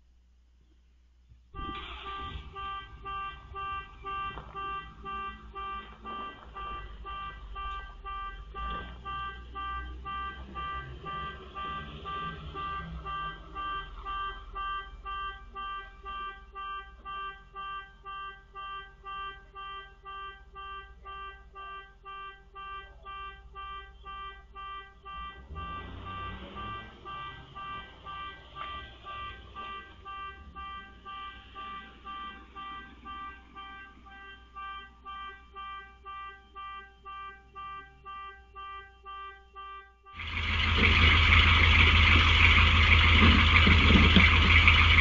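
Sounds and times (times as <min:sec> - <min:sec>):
electronic alarm beeping: 0:01.6 - 0:45.0.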